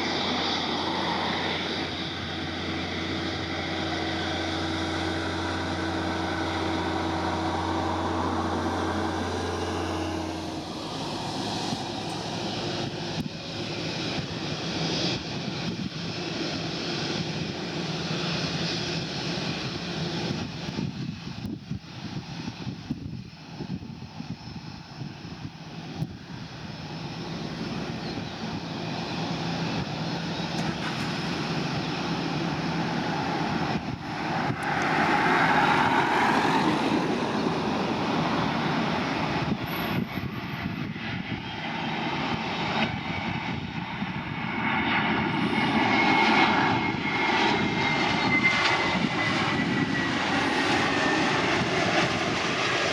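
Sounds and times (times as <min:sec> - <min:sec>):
aircraft engines running: 0:00.0 - 0:52.9.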